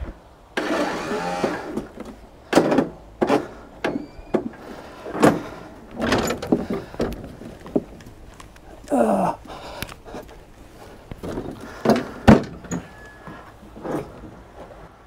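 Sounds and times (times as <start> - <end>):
tractor controls clunking and rattling: 0.0 - 8.9, 9.6 - 15.0.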